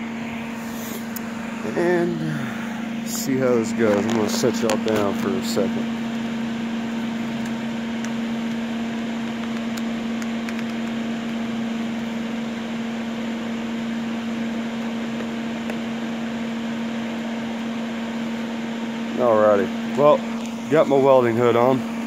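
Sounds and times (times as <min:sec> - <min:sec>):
welder cooling fan humming: 0:00.0 - 0:22.0.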